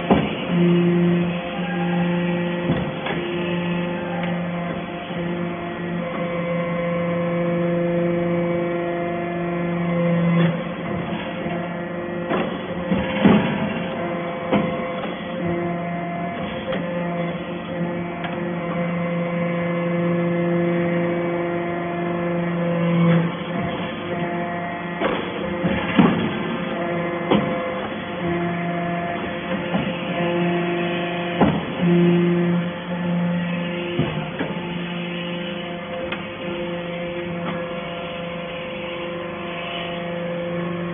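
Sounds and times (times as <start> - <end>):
baler motor and pump hum: 0.0 - 40.9.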